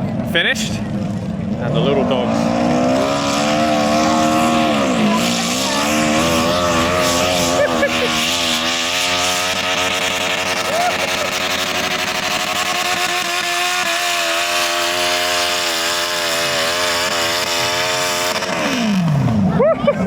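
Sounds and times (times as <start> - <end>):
tractor engine running hard: 0.0 - 20.0.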